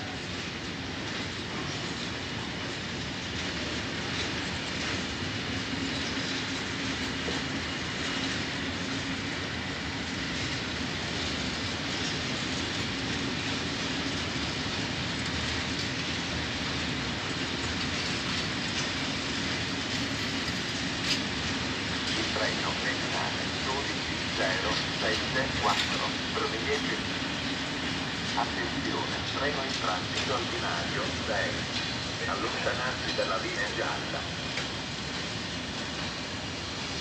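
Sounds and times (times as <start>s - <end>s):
freight train wheels on track: 0.0s - 37.0s.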